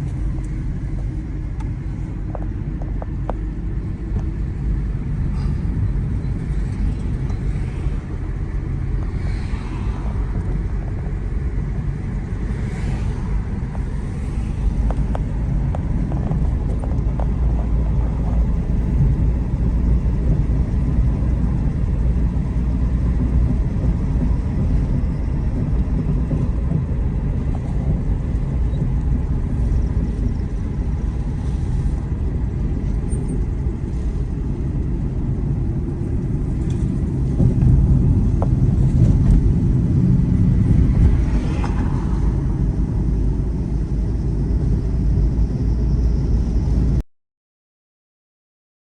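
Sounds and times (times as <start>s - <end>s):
vehicle rumbling: 0.0s - 47.0s.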